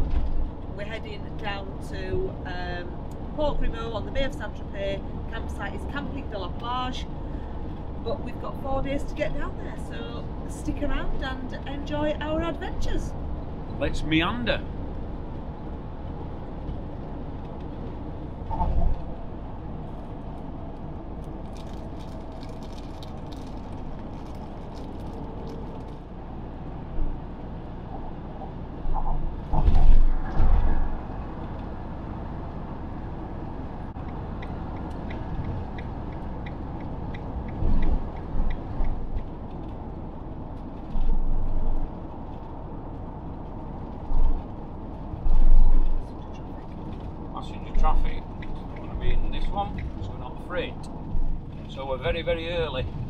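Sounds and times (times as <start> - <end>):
road and engine noise in cab: 0.0 - 53.0.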